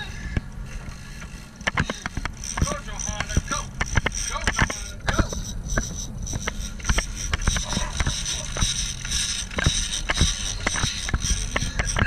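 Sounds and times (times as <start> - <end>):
boat engine rumbling: 0.0 - 12.0
fishing reel clicks and knocks: 0.7 - 12.0.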